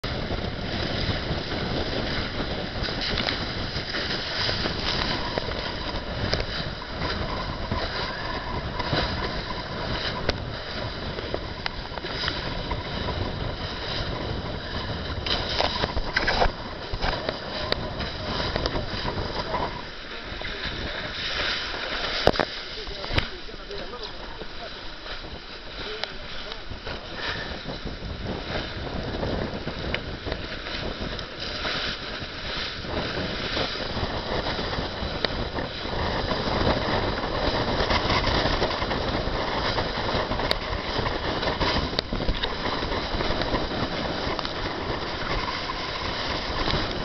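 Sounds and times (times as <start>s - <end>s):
rush of wind and water: 0.0s - 47.0s.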